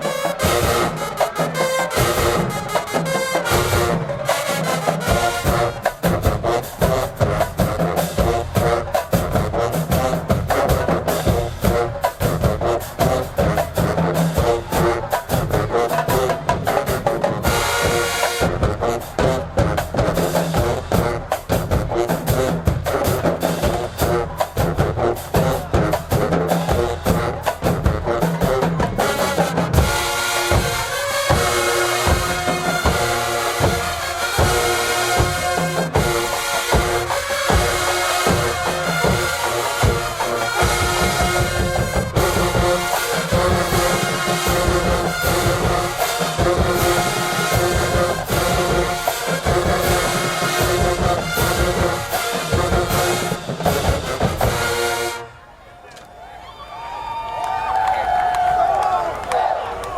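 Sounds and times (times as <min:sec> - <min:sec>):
drumline beating: 0:00.0 - 0:55.4
marching band playing: 0:00.0 - 0:55.8.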